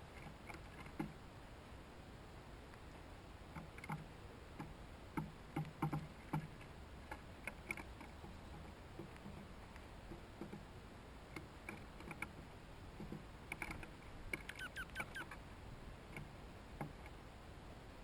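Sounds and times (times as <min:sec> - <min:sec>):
birds ticking and tapping: 0:00.0 - 0:01.2, 0:02.7 - 0:17.2.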